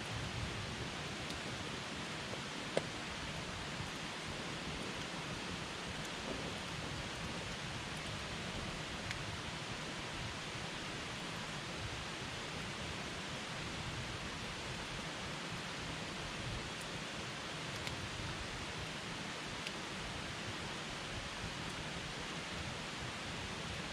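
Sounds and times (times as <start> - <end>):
campfire hissing: 0.0 - 23.9.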